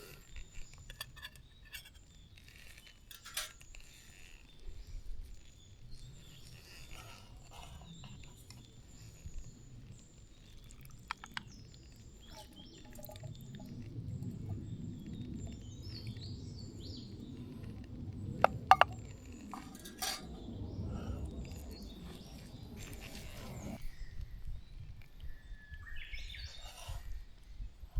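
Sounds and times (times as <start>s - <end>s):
birds chirping: 0.0s - 27.2s.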